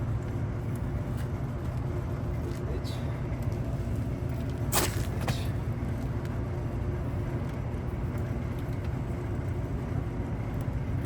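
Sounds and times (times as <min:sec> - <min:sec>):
faint hum: 0:00.0 - 0:11.0
low background rumble: 0:00.0 - 0:11.0.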